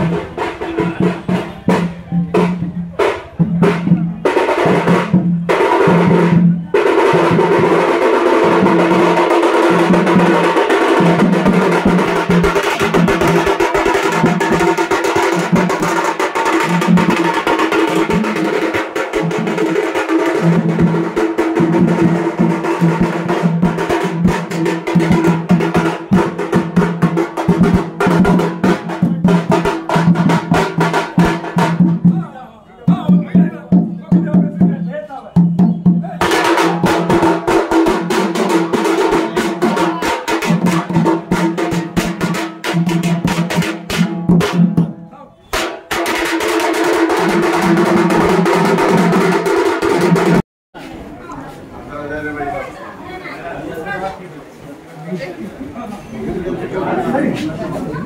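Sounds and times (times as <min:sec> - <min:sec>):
fast drum roll: 0:00.0 - 0:32.3, 0:35.4 - 0:50.4
deep drum beat: 0:00.0 - 0:50.4
drums beaten with sticks: 0:00.0 - 0:50.4.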